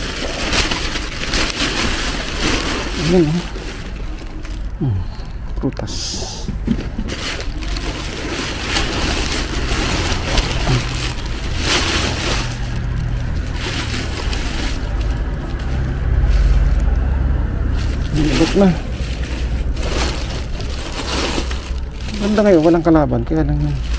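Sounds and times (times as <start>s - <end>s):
plastic bags rustling: 0.0s - 23.9s
steady low rumble: 0.0s - 23.9s.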